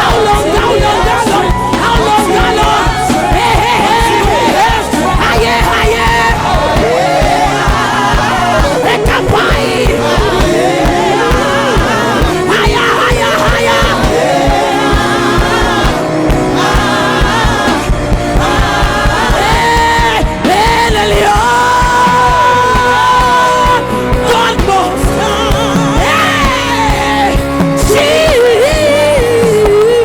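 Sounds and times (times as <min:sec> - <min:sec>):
voices calling out: 0:00.0 - 0:29.8
band playing gospel music: 0:00.0 - 0:30.0
lead singer holding notes: 0:00.0 - 0:30.0.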